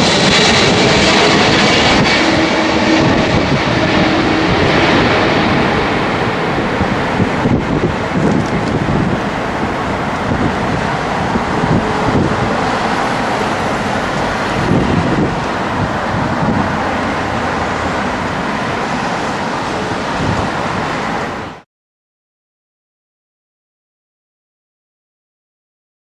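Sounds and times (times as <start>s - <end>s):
jet engines roaring: 0.0s - 21.6s
wind buffeting microphone: 0.0s - 21.6s.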